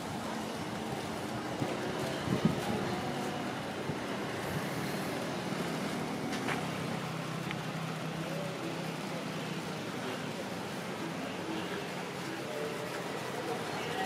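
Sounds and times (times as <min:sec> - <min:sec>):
street noise: 0:00.0 - 0:14.0
vehicle engine humming: 0:00.0 - 0:14.0.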